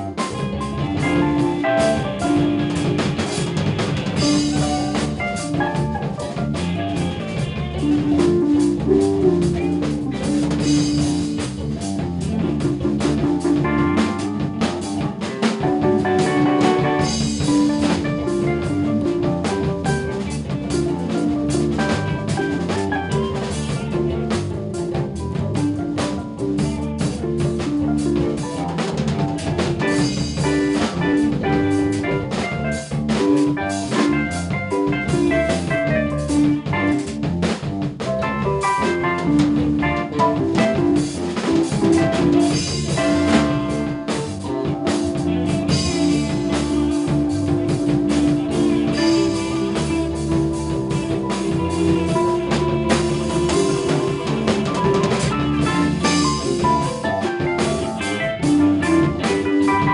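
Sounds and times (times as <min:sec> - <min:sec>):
drum kit beat: 0:00.0 - 0:59.9
electric bass: 0:00.0 - 0:59.9
electric guitar: 0:00.0 - 0:59.9
electric piano and organ: 0:00.0 - 0:59.9.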